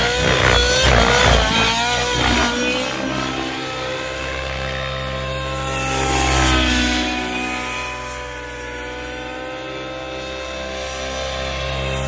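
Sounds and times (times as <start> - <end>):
model helicopter engine droning: 0.0 - 12.0.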